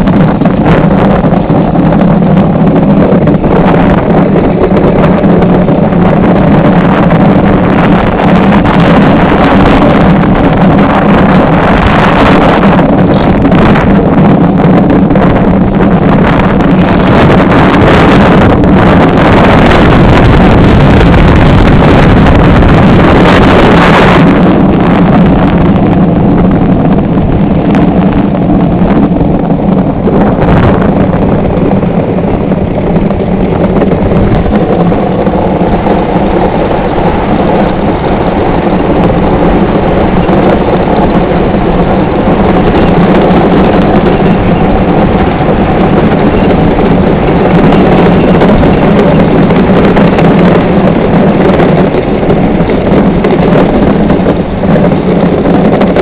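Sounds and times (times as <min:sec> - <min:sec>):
iceboat runners on ice: 0:00.0 - 0:56.0
wind on microphone: 0:00.0 - 0:56.0.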